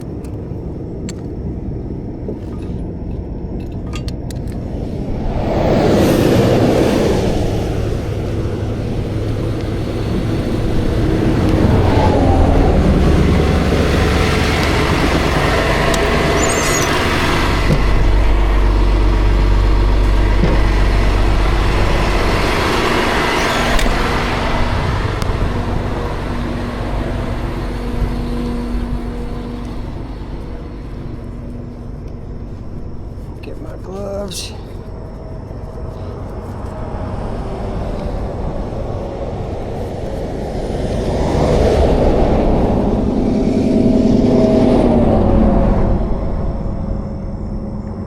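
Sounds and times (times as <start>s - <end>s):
deep low rumble: 0.0s - 48.0s
vehicles rushing past: 4.1s - 47.0s.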